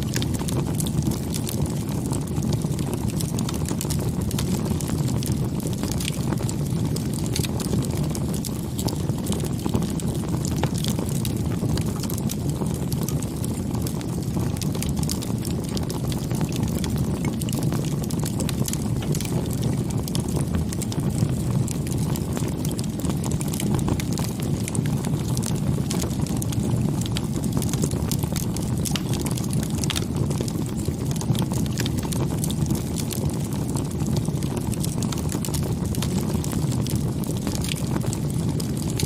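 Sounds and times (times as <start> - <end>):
bonfire crackling and popping: 0.0 - 39.0.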